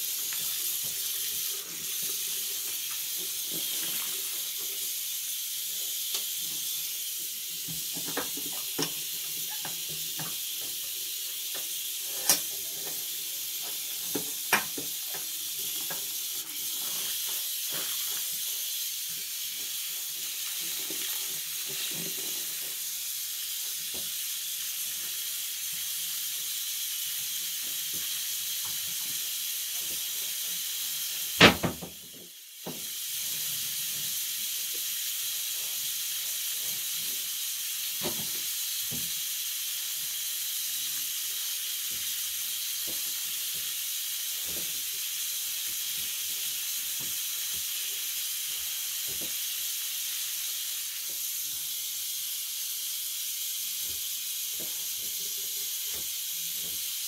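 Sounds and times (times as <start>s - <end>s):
high-pitched hiss: 0.0s - 57.0s.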